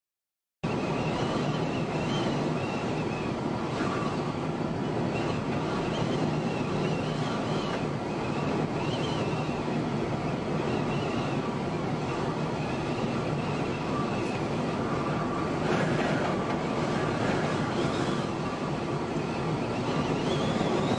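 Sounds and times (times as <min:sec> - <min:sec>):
road and wind noise: 0:00.6 - 0:20.9.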